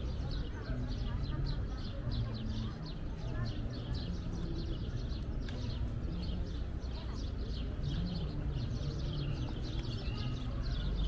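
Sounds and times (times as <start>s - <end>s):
distant people's voices: 0.0s - 11.0s
small birds chirping: 0.0s - 11.0s.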